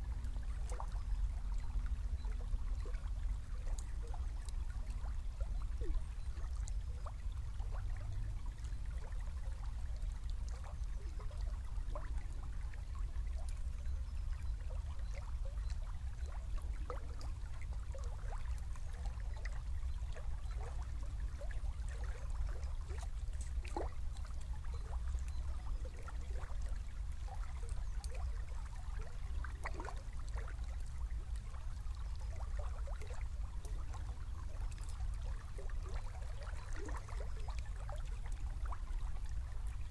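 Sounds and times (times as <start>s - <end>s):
river trickling and gurgling: 0.0s - 39.9s.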